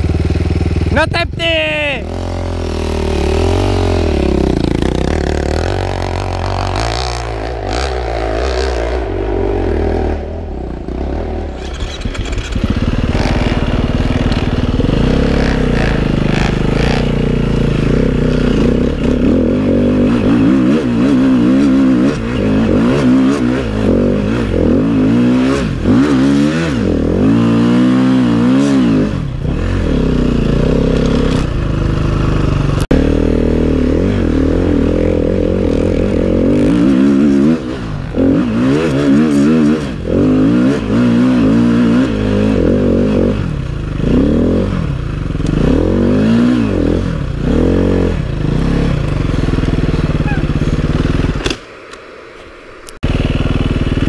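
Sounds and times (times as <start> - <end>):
dirt bike engine revving: 0.0 - 51.6, 53.0 - 54.0.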